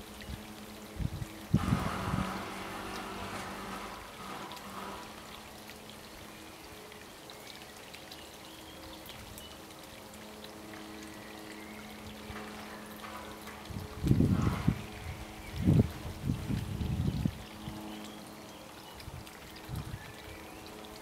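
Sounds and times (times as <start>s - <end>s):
running water trickling: 0.0s - 21.0s.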